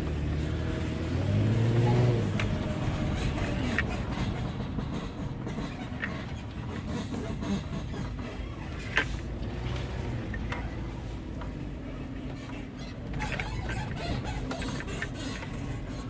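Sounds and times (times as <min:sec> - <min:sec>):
low vehicle rumble: 0:00.0 - 0:16.0
suspension squeaking: 0:00.0 - 0:16.0.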